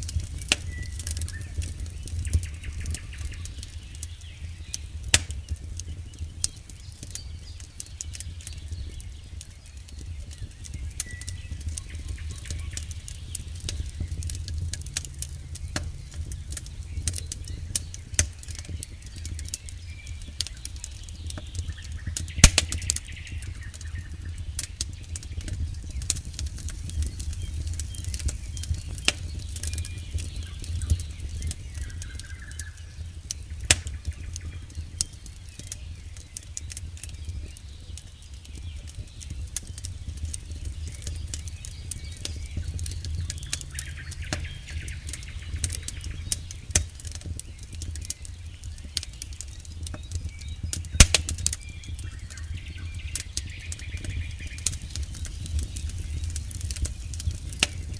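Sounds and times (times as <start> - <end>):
low rumble of flames: 0.0 - 57.9
wood crackling and popping: 0.0 - 57.9.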